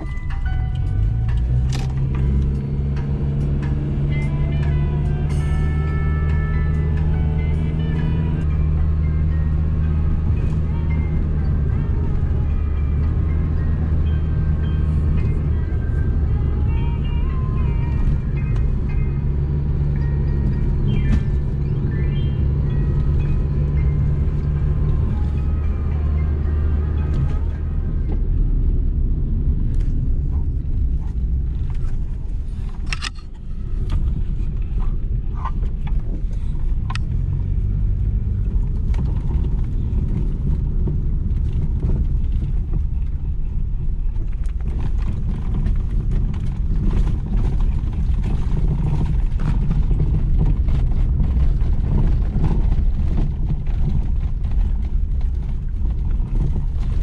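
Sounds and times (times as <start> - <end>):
vehicle rumble: 0.0 - 57.0.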